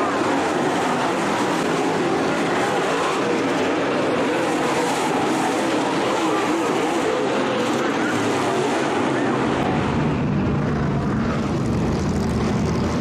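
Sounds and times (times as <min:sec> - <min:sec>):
race car engines racing: 0:00.0 - 0:13.0.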